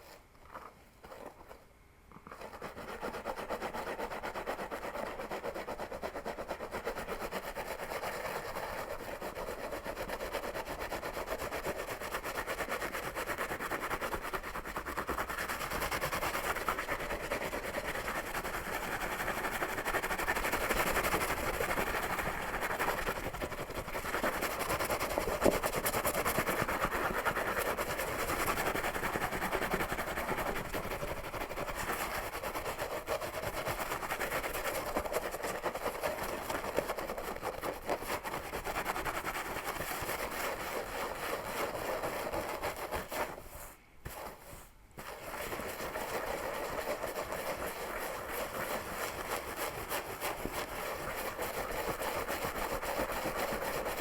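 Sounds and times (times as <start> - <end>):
fingers scratching scalp and hair: 2.3 - 54.0.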